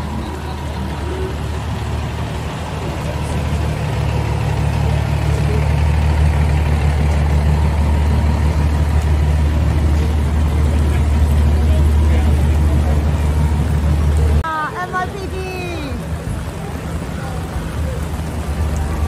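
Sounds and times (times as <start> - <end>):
fire truck engine idling: 0.0 - 19.0.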